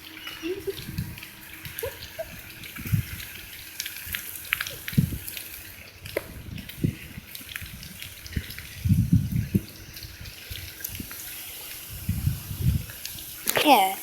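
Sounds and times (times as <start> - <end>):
bicycle tyres splashing through water: 0.0 - 14.0
wind buffeting microphone: 0.5 - 13.4.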